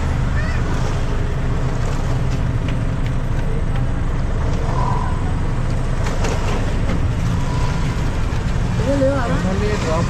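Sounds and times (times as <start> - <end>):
auto-rickshaw engine idling: 0.0 - 10.0.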